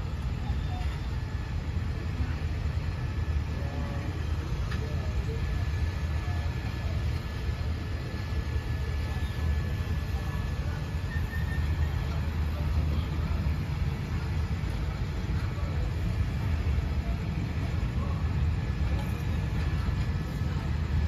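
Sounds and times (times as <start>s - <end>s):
train rolling with low rumble: 0.0s - 21.0s.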